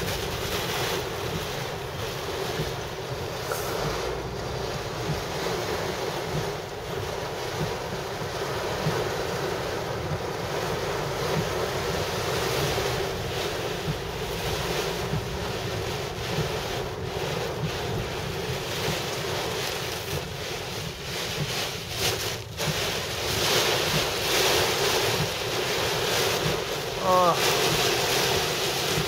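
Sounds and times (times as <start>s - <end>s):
heavy rain on car roof: 0.0s - 29.0s
wind: 0.0s - 29.0s.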